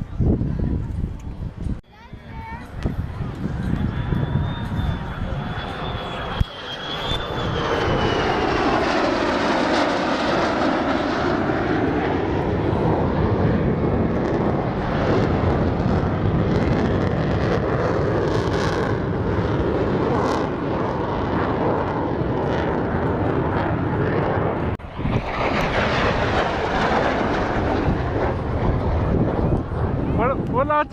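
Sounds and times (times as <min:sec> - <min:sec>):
airplane engine passing: 0:01.4 - 0:30.9.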